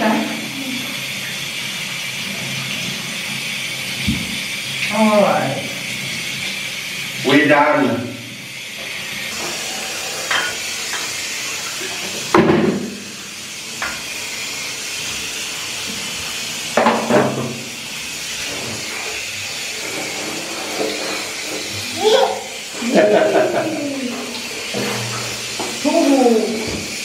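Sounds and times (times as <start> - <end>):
shower spraying into bathtub: 0.0 - 27.0.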